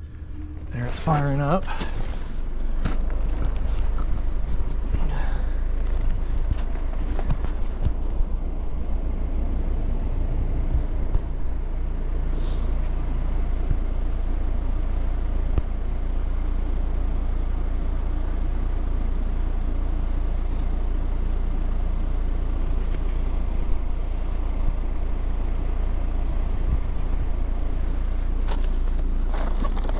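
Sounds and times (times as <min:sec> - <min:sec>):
compressor hum: 0:00.0 - 0:29.9.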